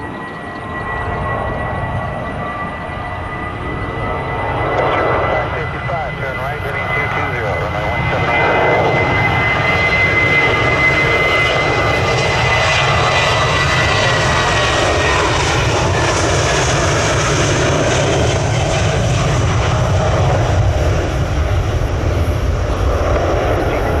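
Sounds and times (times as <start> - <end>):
airliner jet engines roaring: 0.0 - 24.0
high engine whine: 0.0 - 24.0.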